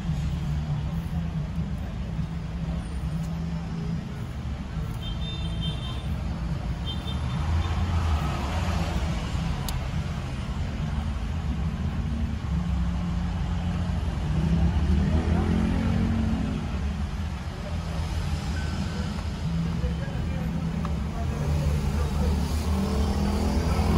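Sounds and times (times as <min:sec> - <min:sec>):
car road and engine noise: 0:00.0 - 0:23.9.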